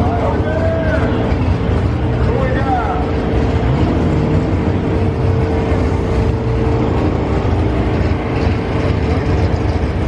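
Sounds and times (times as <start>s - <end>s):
race car engines rumbling: 0.0s - 10.0s.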